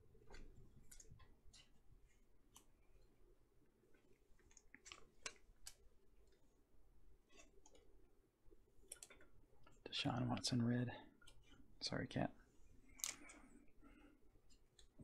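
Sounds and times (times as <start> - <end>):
trading cards and sleeves handled: 0.1 - 10.5, 11.1 - 15.0.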